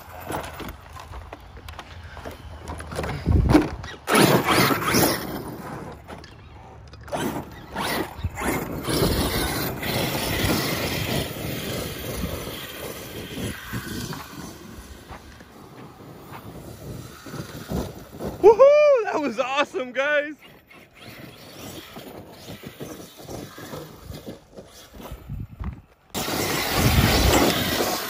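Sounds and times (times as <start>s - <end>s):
electric motor and drivetrain whirring: 0.0s - 28.0s
tyres scraping dirt: 0.0s - 28.0s.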